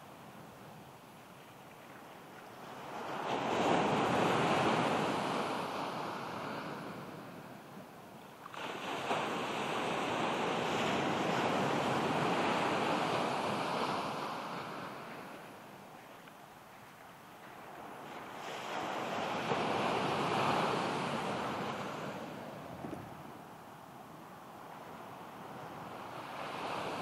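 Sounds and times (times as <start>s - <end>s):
ocean surf breaking on beach: 2.5s - 27.0s.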